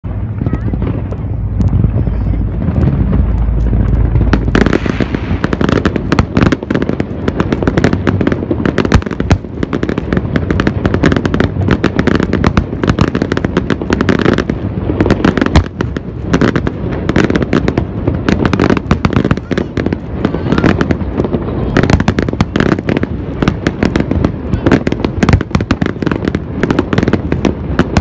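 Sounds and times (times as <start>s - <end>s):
fireworks bursting and crackling: 0.0s - 28.0s.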